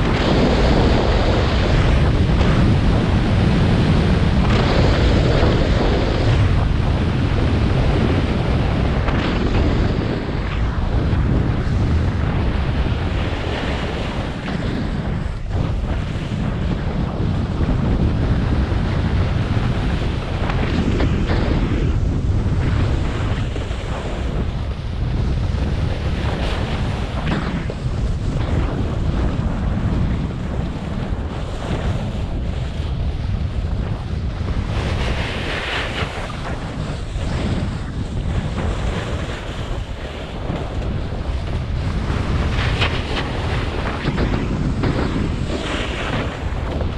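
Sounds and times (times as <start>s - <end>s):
snowboard sliding on snow: 0.0s - 46.9s
wind buffeting microphone: 0.0s - 46.9s.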